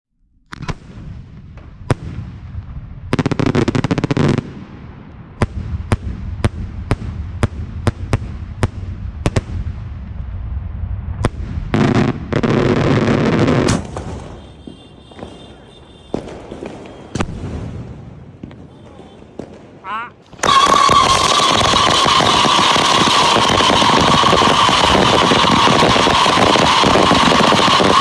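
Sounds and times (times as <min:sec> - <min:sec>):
firework bangs: 0:00.6 - 0:28.0
firework crackle: 0:05.5 - 0:28.0.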